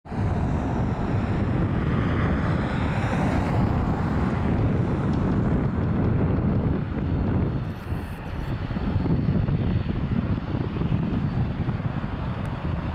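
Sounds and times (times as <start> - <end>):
propeller drone: 0.1 - 12.9
wind buffeting microphone: 0.1 - 12.9.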